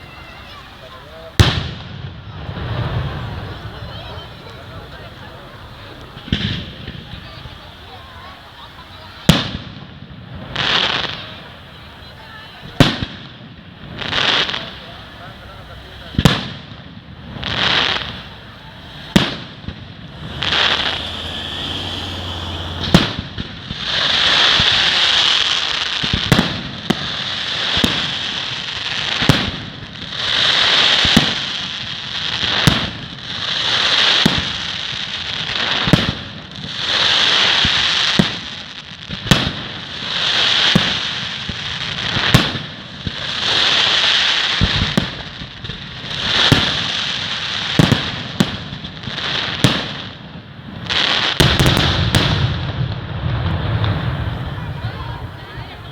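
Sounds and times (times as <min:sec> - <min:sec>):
fireworks banging and crackling: 0:00.0 - 0:55.9.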